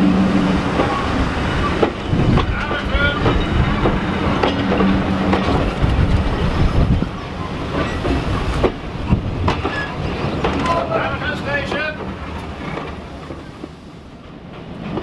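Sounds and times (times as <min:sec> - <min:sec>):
train coaches rumbling past: 0:00.0 - 0:15.0
wheels clicking over rail joints: 0:01.6 - 0:13.7.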